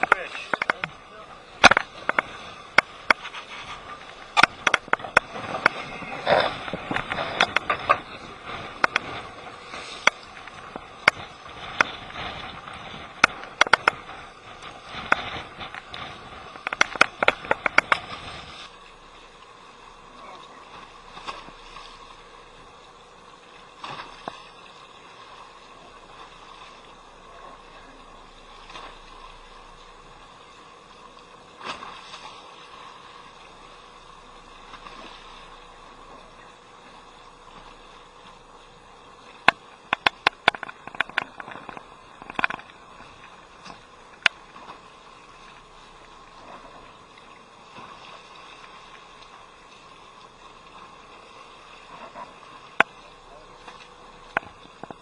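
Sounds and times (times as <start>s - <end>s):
water washing: 0.0s - 55.0s
wind: 0.0s - 55.0s.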